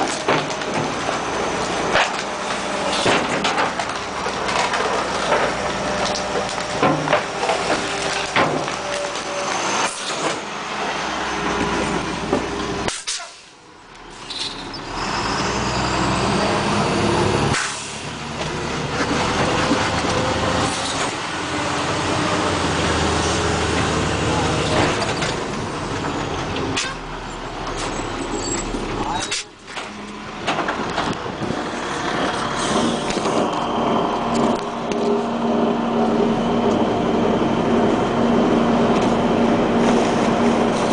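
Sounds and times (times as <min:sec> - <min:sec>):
garbage truck running: 0:00.0 - 0:40.9.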